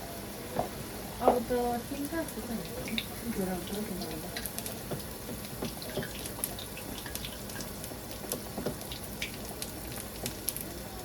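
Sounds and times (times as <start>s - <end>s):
dough sizzling in hot oil: 0.7s - 11.0s.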